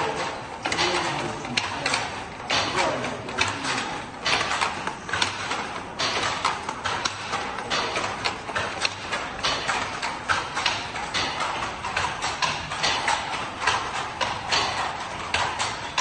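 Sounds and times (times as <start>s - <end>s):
rapid uneven clacking: 0.0s - 16.0s
steady background hum: 0.0s - 16.0s.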